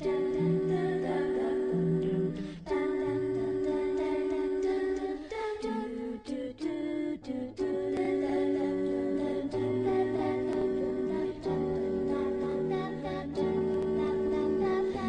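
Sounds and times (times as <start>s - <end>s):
wordless held vocal notes: 0.0s - 15.0s.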